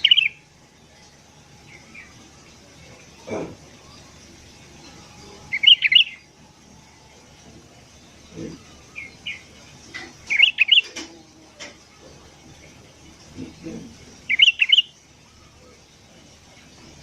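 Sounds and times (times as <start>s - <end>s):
bulbuls chirping: 0.0s - 0.5s, 1.6s - 6.4s, 7.6s - 16.4s.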